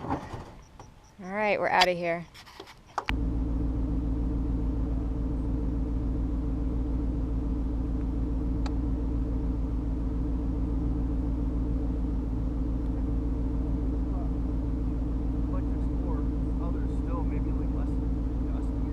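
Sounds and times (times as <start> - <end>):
truck engine rumbling: 0.0 - 18.9.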